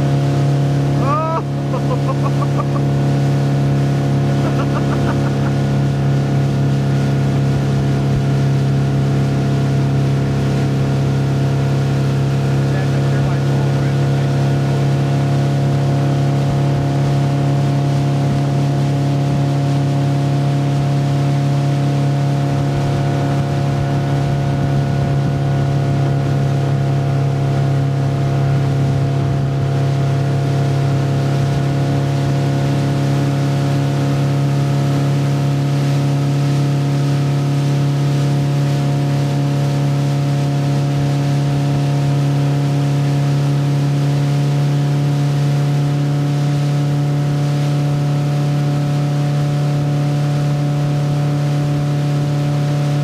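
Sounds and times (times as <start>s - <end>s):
motorboat engine running: 0.0s - 53.0s
rush of boat wake: 0.0s - 53.0s.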